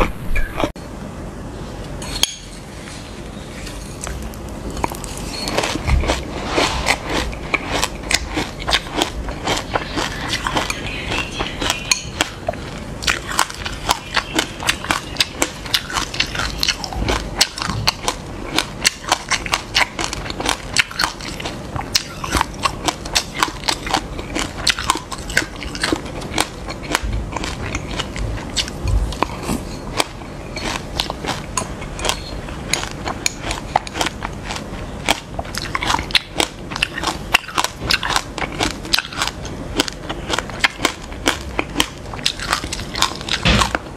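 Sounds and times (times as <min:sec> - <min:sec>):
crunchy chewing: 0:02.0 - 0:43.9.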